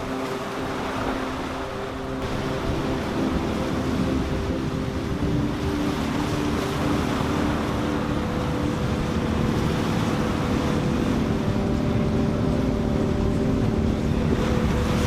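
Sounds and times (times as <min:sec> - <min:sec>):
motorboat engines humming: 0:00.0 - 0:15.0
water rushing: 0:00.0 - 0:15.0.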